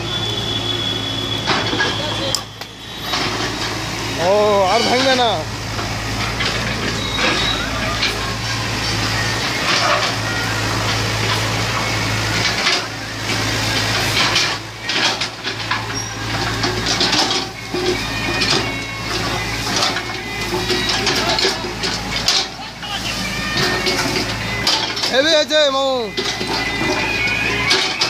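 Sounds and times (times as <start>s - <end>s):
excavator engine humming: 0.0s - 28.0s.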